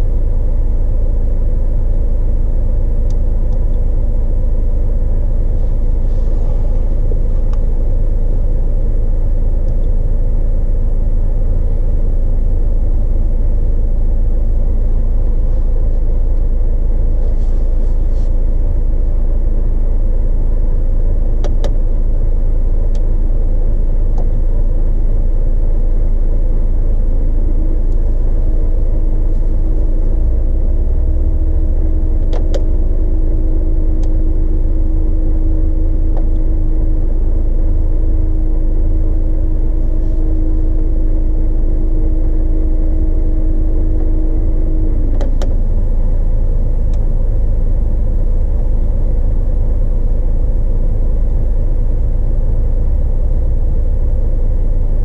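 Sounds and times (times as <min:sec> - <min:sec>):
diesel truck engine idling: 0:00.0 - 0:55.0
steady hum: 0:00.0 - 0:55.0.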